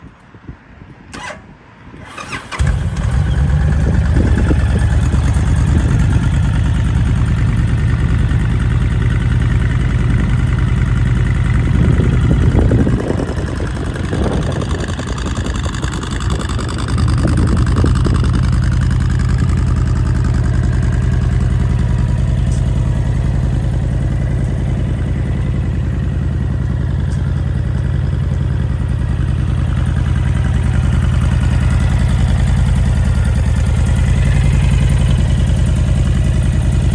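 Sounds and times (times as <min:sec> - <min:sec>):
motorcycle throttle blips: 0:02.1 - 0:36.9
motorcycle engine idling: 0:02.2 - 0:36.9.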